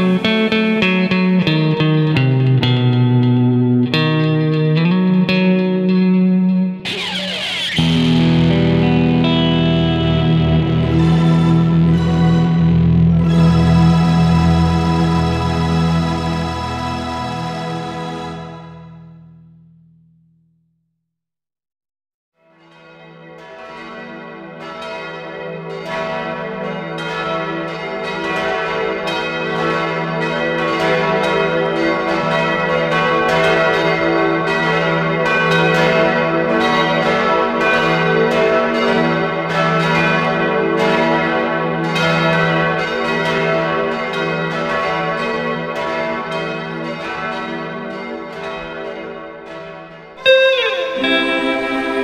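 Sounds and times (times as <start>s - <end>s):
church bells pealing: 0.0s - 2.7s, 6.8s - 19.1s, 22.6s - 52.0s.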